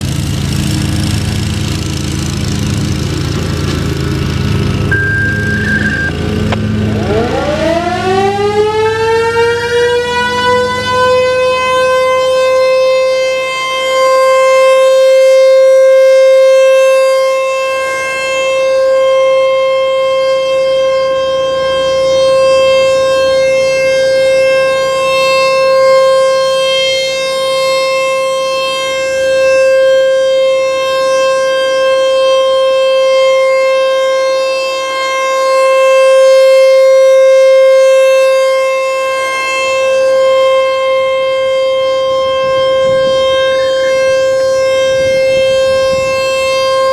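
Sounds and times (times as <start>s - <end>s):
warning siren steady tone: 4.6s - 46.9s.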